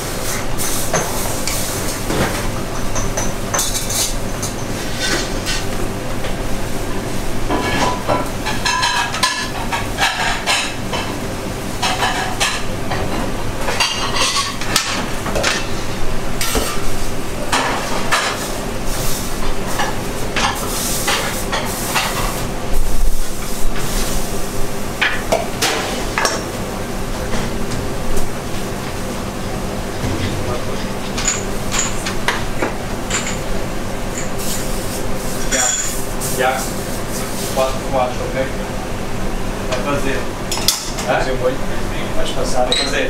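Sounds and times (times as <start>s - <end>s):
kitchen ventilation hum: 0.0s - 43.0s.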